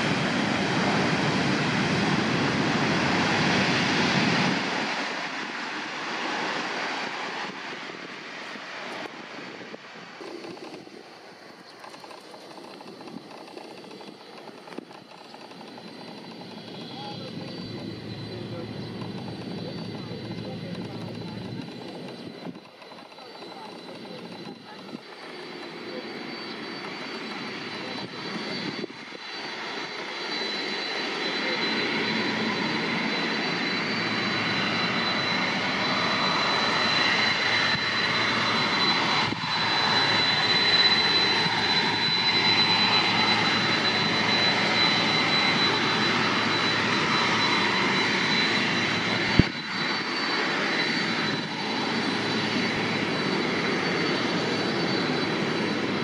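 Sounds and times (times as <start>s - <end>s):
high-pitched engine whine: 0.0s - 56.0s
jet engines running: 0.0s - 56.0s.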